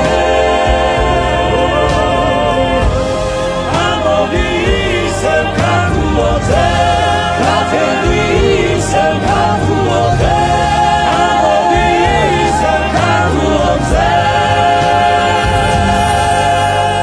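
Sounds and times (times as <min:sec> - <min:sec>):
instrumental backing with bass: 0:00.0 - 0:17.0
voices singing anthem: 0:00.0 - 0:17.0.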